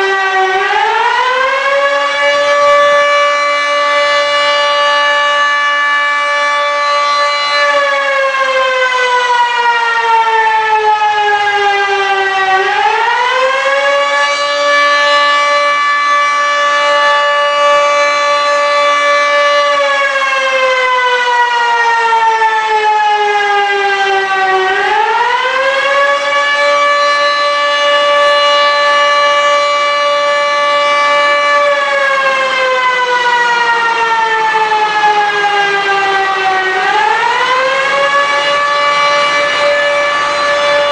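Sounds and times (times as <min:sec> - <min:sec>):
fire siren wailing: 0:00.0 - 0:40.9.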